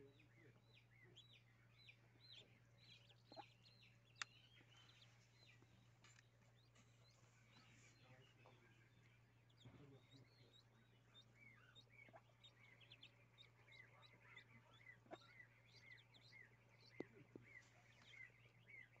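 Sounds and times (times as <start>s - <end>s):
ducklings peeping: 0.0s - 19.0s.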